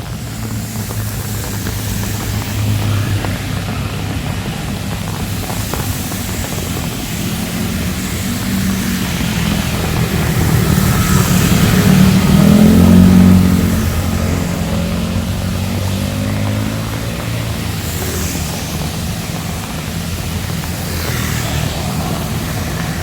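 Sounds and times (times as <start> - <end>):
heavy rain hissing: 0.0 - 23.0
vehicle driving past on wet street: 0.0 - 23.0.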